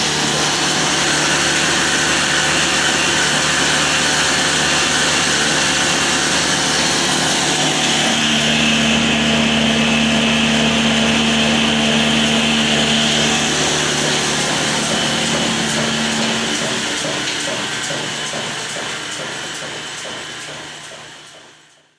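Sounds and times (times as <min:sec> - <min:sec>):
flour mill mechanical whine: 0:00.0 - 0:21.7.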